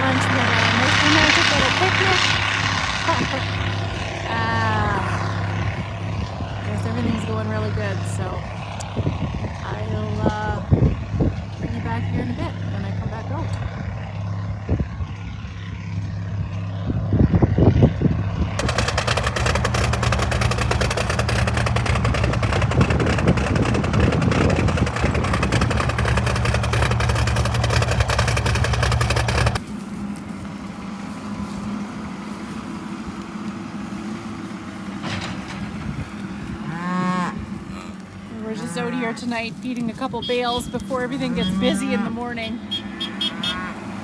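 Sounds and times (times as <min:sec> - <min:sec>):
vehicle engine running: 0:00.0 - 0:44.0.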